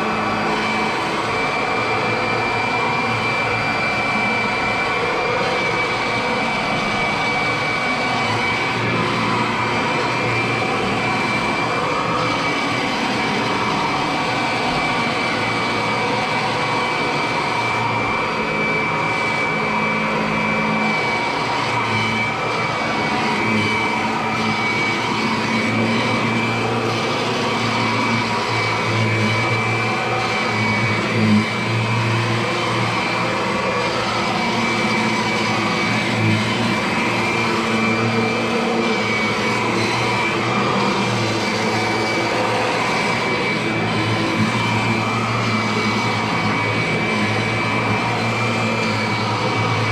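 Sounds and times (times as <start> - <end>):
vacuum cleaner running on carpet: 0.0 - 49.9.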